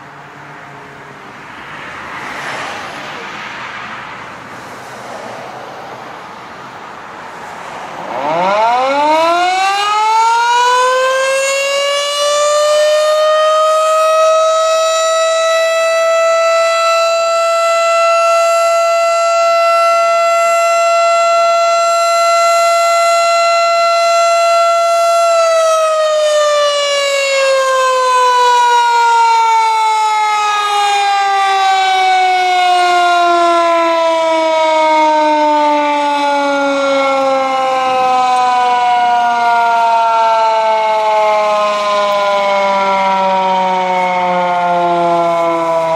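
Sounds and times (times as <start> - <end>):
siren winding up and down: 8.1 - 45.9.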